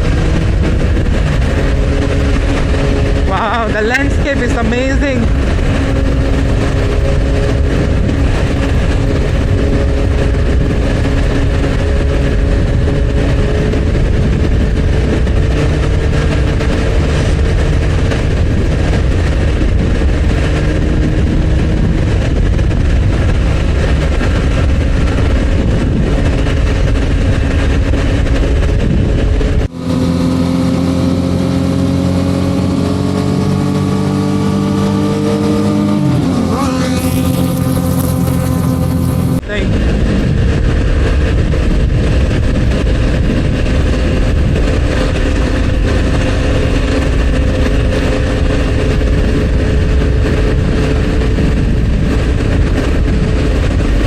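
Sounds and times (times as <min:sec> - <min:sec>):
motorcycle engine cruising: 0:00.0 - 0:54.0
wind rumble: 0:00.0 - 0:54.0.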